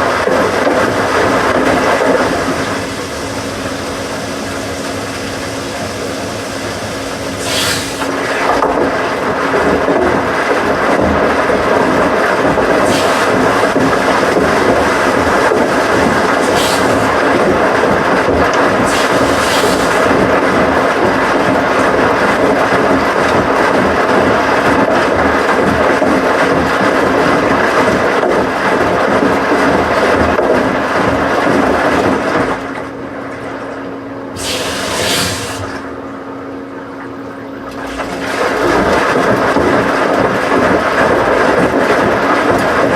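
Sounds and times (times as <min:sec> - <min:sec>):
washing machine rumbling: 0:00.0 - 0:42.9.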